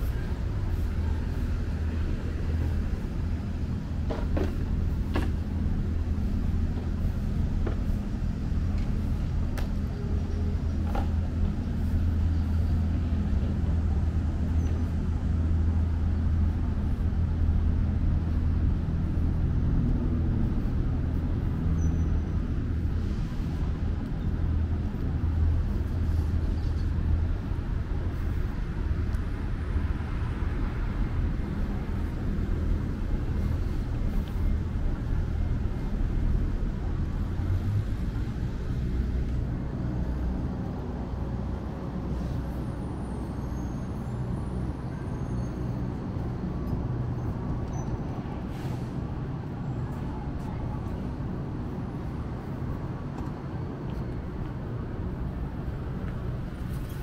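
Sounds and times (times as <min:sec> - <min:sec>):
street traffic: 0:00.0 - 0:57.0.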